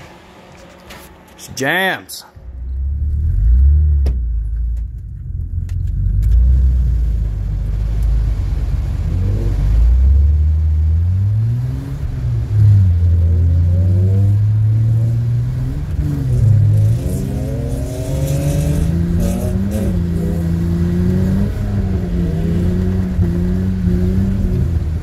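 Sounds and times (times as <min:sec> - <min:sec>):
car engine revving: 0:02.4 - 0:25.0.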